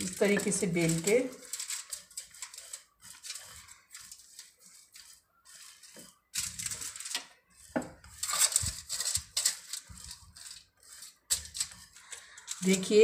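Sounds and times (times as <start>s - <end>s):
foil crinkling and rustling: 0.0s - 7.3s, 8.2s - 13.0s
rolling pin rolling dough: 0.0s - 13.0s.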